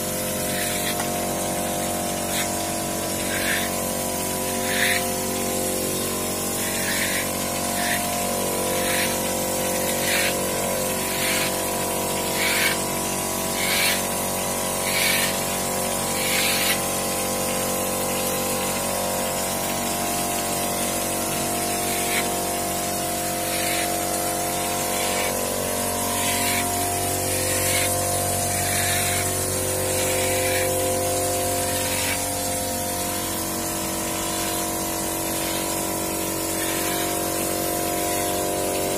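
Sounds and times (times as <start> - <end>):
air compressor humming: 0.0 - 38.9
spray gun hissing bursts: 0.0 - 38.9.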